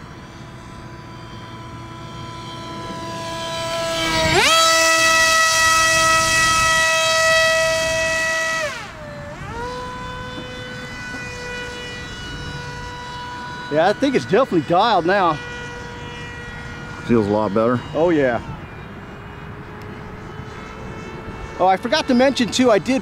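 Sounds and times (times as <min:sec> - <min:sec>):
electric motor and propeller whining: 0:00.0 - 0:23.0.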